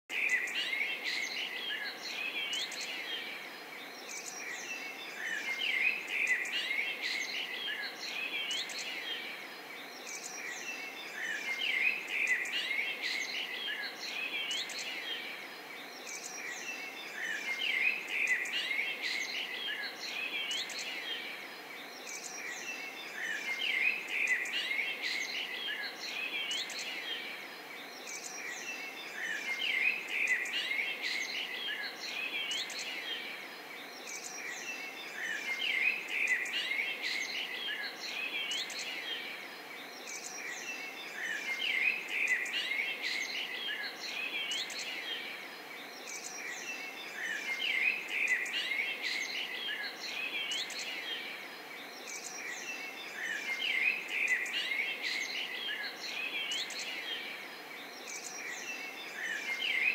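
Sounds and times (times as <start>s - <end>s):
songbirds chirping and singing: 0.0s - 59.9s
background hiss: 0.1s - 59.9s.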